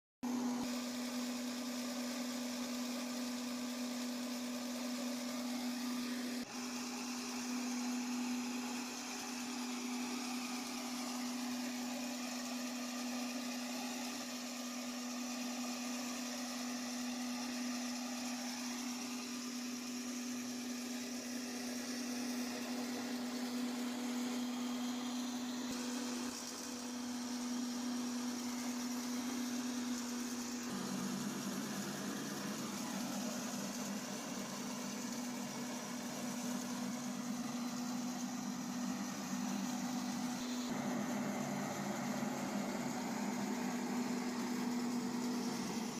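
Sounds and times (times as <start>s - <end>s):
electric lawn mower motor humming: 0.3s - 45.9s.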